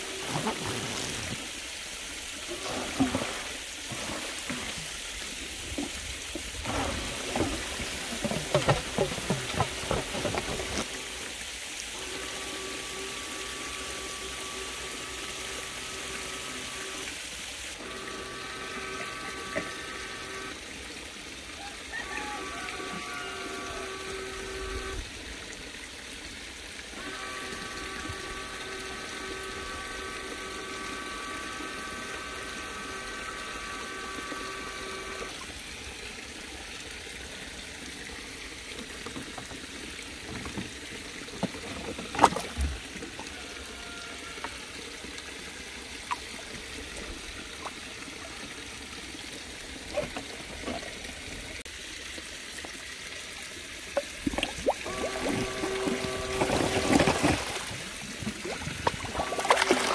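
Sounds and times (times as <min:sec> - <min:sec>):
water trickling and gurgling: 0:00.0 - 0:59.9.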